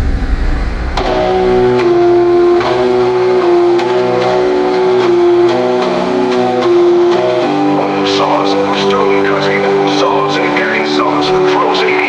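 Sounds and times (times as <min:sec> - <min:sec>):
background music with light beat: 0:01.0 - 0:12.0.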